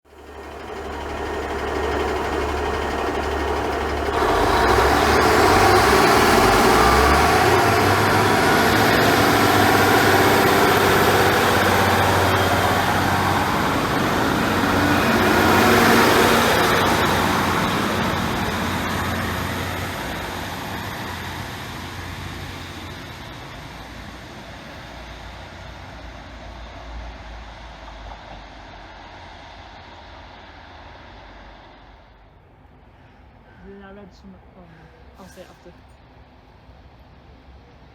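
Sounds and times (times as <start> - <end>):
diesel train engine running: 0.0 - 37.9
high wheel whine: 0.1 - 32.4
train passing with rumbling: 0.1 - 37.9.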